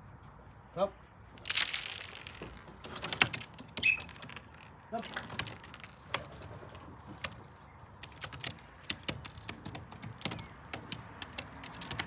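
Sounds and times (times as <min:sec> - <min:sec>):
pigeons pecking and stepping on roof: 0:01.5 - 0:12.0.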